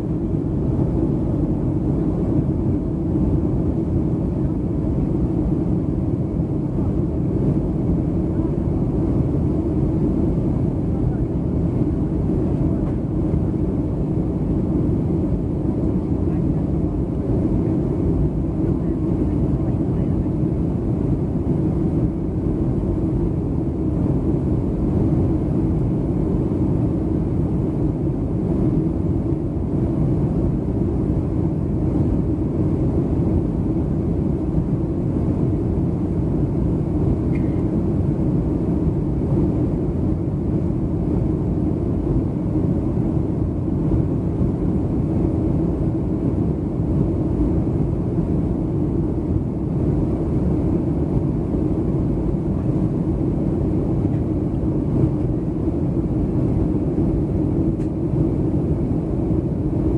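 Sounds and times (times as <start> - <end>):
aircraft cabin engine rumble: 0.0 - 59.9.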